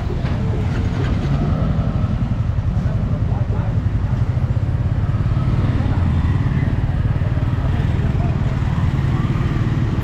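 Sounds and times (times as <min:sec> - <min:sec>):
motorbikes and cars passing: 0:00.0 - 0:10.0.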